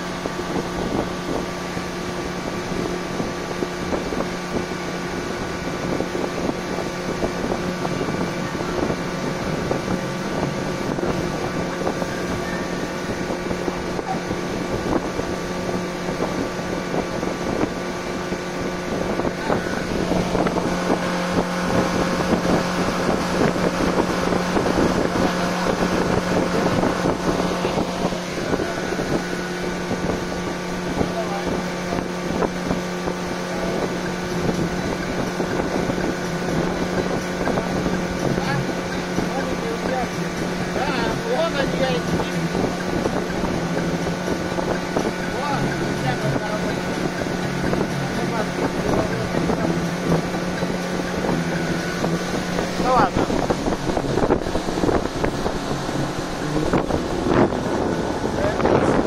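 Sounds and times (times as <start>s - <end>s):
motorboat engine running: 0.0s - 59.0s
water rushing past hull: 0.0s - 59.0s
wind on microphone: 0.0s - 59.0s.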